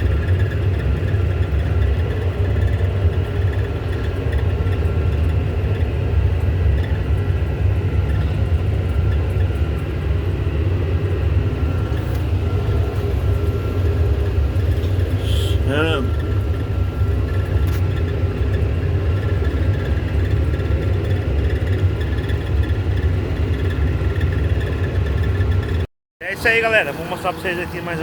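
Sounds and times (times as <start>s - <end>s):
diesel tractor engine running: 0.0s - 28.0s
faint steady whine: 0.0s - 28.0s.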